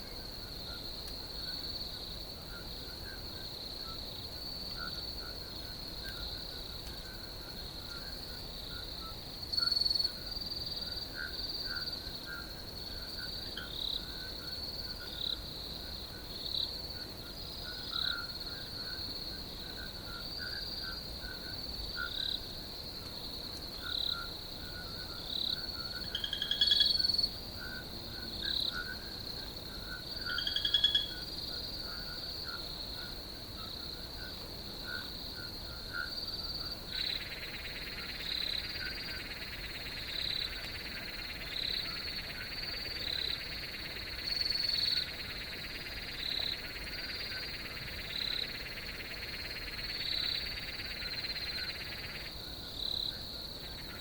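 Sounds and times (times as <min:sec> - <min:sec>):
crickets trilling: 0:00.0 - 0:54.0
rapid pulsed insect calls: 0:00.0 - 0:54.0.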